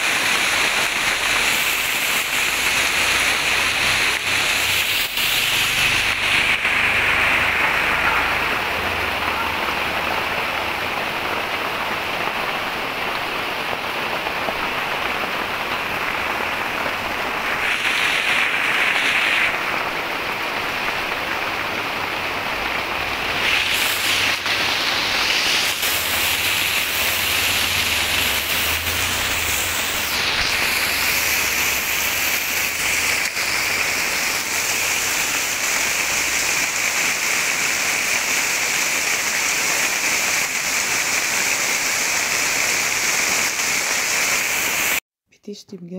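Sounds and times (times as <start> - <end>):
heavy rain splashing on water: 0.0 - 45.0.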